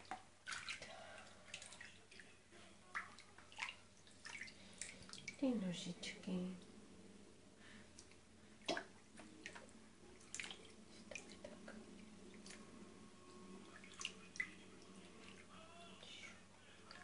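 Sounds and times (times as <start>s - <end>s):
water splashing in a bathtub: 0.0s - 6.8s, 7.9s - 12.8s, 13.6s - 16.2s, 16.8s - 17.0s.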